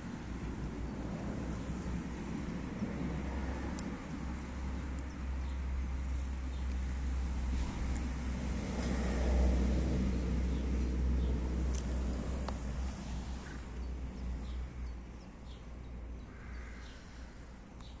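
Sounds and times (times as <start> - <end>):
outdoor low rumble: 0.0 - 18.0.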